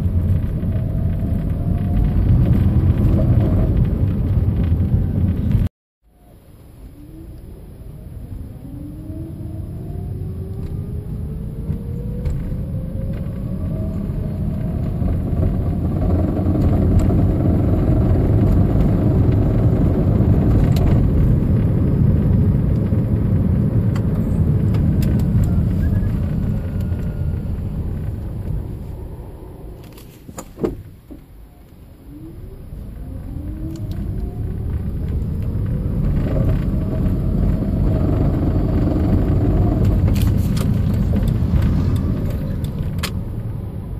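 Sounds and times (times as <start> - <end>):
car pulling away with whine: 0.0 - 43.9.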